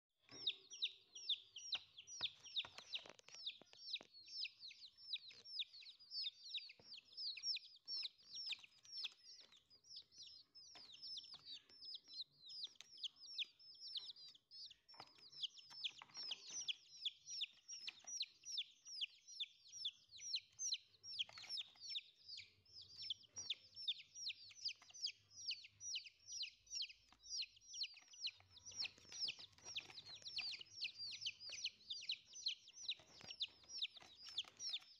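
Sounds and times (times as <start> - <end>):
chicks peeping: 0.2 - 34.9.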